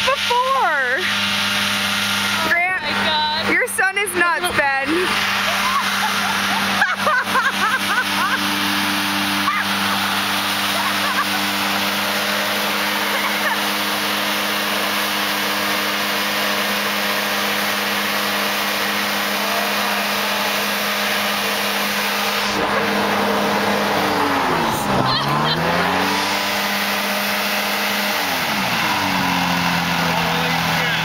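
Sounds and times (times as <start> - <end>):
hovercraft engine running: 0.0 - 31.0
loud rush of air: 4.8 - 30.8.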